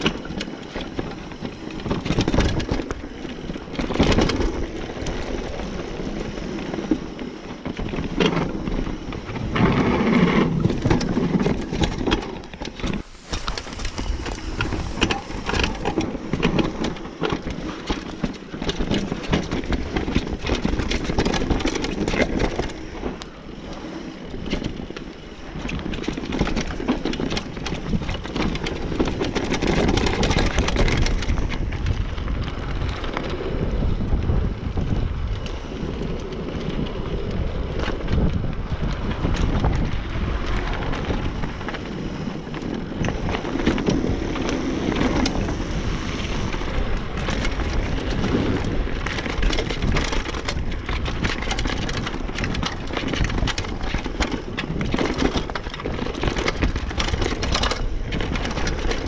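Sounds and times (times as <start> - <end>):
bike clattering and rattling: 0.0 - 59.0
bike tyres rolling over dirt: 0.0 - 59.0
heavy rumble on microphone: 0.8 - 24.8, 27.5 - 59.0.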